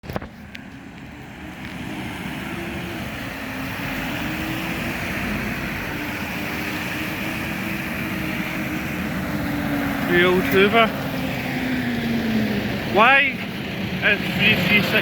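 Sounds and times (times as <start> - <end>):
bus engine whirring: 0.0 - 15.0.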